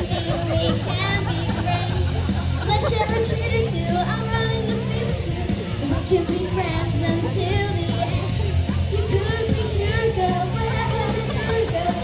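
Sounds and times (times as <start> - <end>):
upbeat pop music with singing: 0.0 - 12.0.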